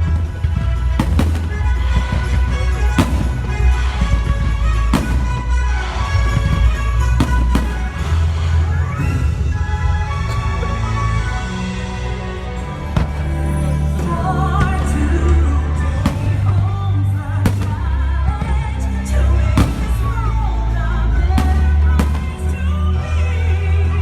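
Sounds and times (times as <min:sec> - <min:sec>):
firework bangs: 0:00.0 - 0:13.4, 0:14.5 - 0:23.7
music with singer: 0:00.0 - 0:24.0.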